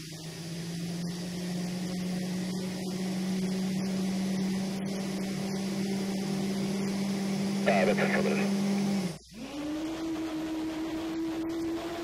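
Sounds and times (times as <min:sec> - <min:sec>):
jet engine running: 0:00.0 - 0:12.0.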